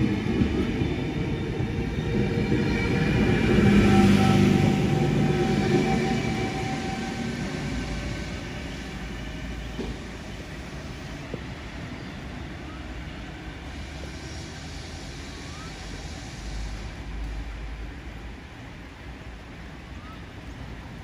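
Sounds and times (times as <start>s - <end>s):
train rumbling away: 0.0s - 21.0s.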